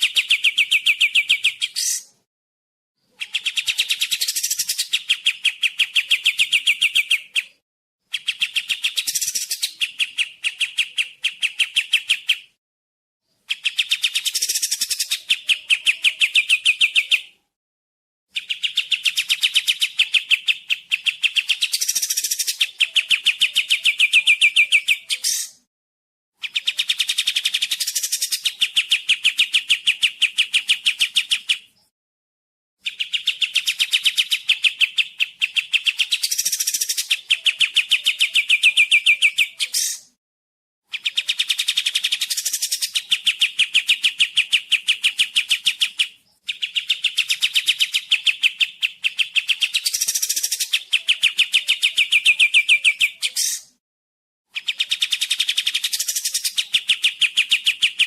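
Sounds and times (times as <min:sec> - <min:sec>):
bird chattering song: 0:00.0 - 0:02.2, 0:03.0 - 0:12.6, 0:13.3 - 0:17.4, 0:18.3 - 0:25.6, 0:26.4 - 0:31.9, 0:32.8 - 0:40.1, 0:40.9 - 0:53.8, 0:54.5 - 0:58.0.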